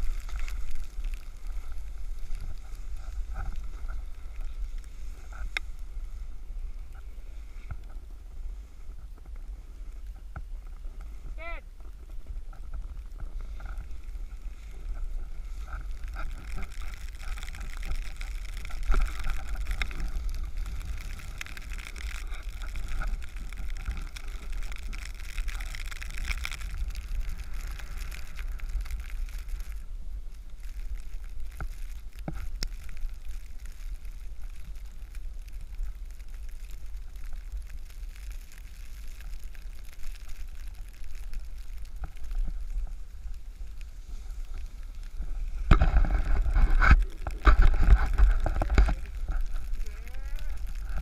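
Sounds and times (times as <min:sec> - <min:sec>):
snowboard scraping on snow: 0:00.0 - 0:51.0
wind rumble on microphone: 0:00.0 - 0:51.0.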